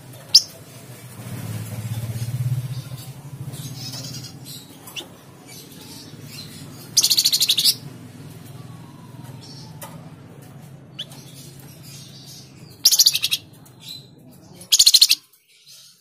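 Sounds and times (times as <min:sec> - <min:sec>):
songbird calling: 0:02.0 - 0:10.2, 0:10.9 - 0:15.8.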